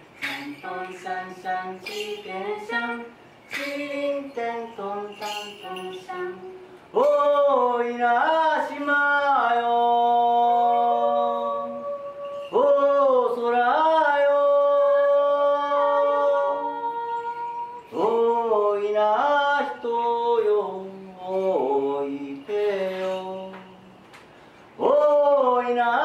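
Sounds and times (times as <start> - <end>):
person singing unaccompanied: 0.0 - 26.0.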